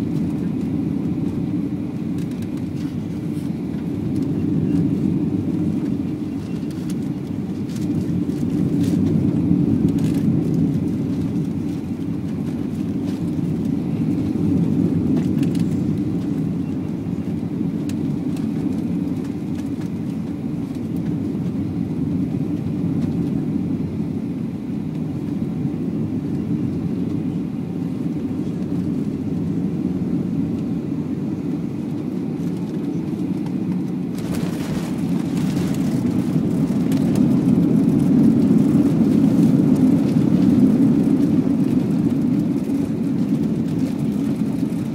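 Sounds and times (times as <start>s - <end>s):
jet engine cabin rush: 0.0s - 44.9s.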